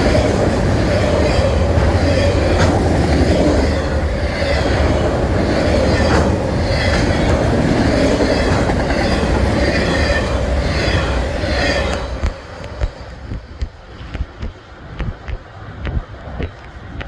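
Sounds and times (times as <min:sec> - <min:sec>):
wheels clacking over rail joints: 0:00.0 - 0:14.2
freight train wheels rumbling: 0:00.0 - 0:17.0.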